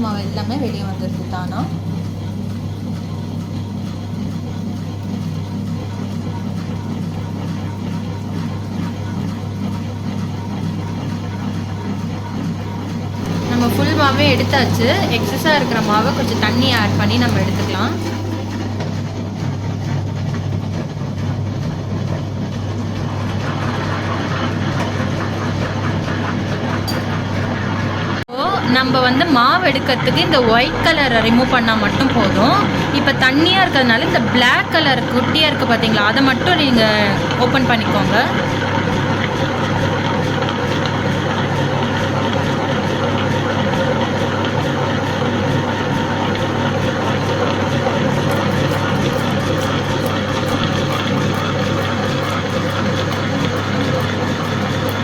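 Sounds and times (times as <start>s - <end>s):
grinding stone churning: 0.0s - 28.2s, 29.1s - 55.0s
wet grinder humming: 0.0s - 55.0s.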